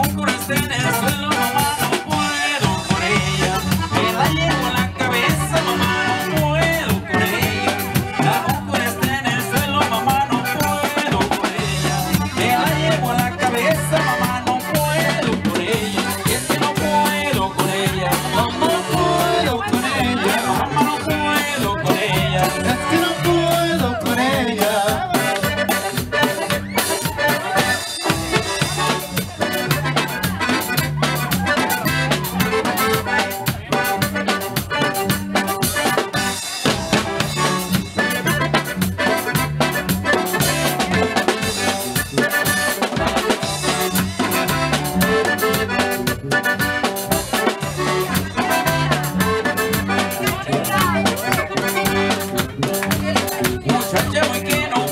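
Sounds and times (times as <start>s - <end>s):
accordion: 0.0s - 54.9s
alternating bass line: 0.0s - 54.9s
steady drum beat: 0.0s - 54.9s.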